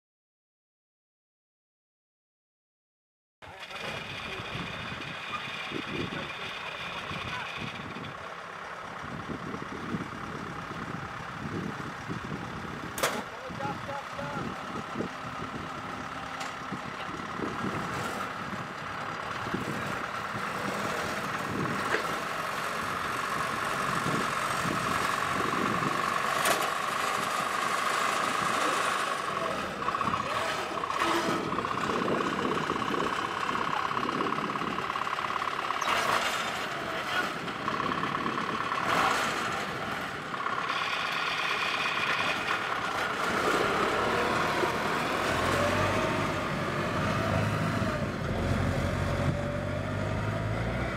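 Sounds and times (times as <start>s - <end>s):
tracked vehicle engine running: 3.4s - 50.9s.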